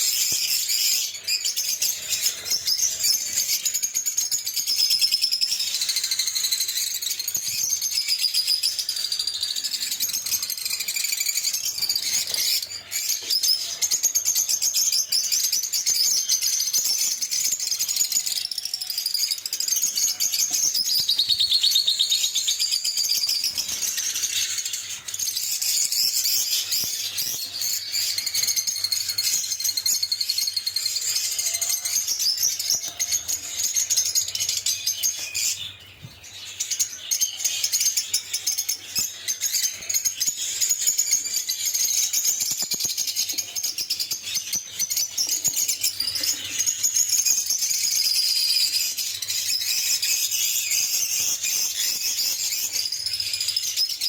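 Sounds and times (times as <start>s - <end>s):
lovebirds chirping and chattering: 0.0s - 54.0s.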